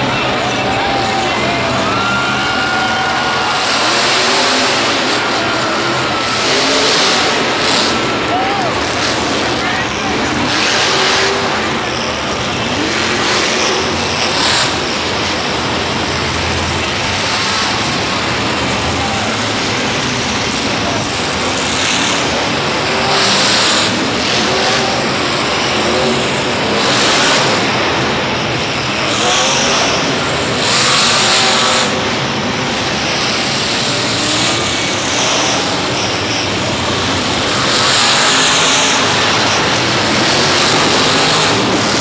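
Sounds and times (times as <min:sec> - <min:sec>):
monster truck engines revving: 0:00.0 - 0:42.0.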